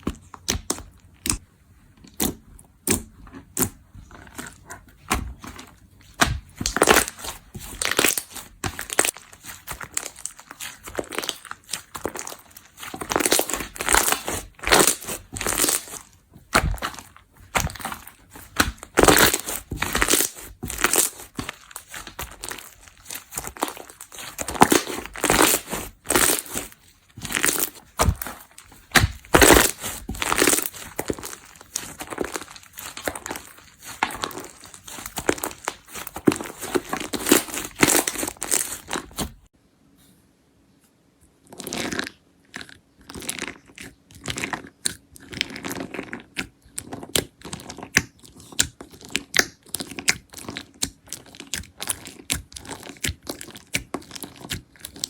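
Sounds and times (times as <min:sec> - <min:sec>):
slime crackling and popping: 0:02.1 - 0:39.5, 0:41.7 - 0:55.0.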